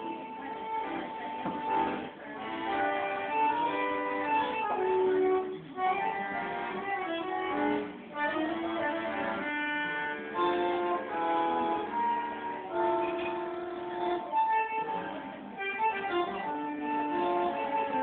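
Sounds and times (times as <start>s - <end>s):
bandoneon playing a tune: 0.0s - 18.0s.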